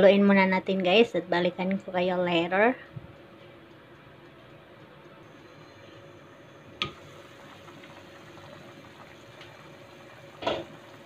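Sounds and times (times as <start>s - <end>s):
broth bubbling in a pot: 0.6s - 11.0s.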